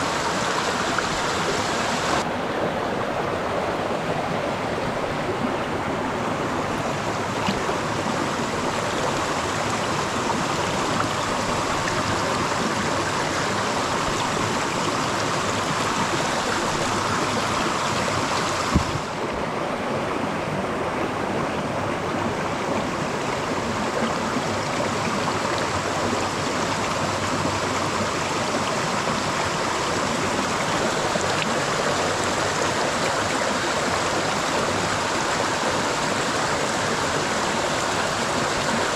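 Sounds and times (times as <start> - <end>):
stream water rushing over rocks: 0.0 - 38.9.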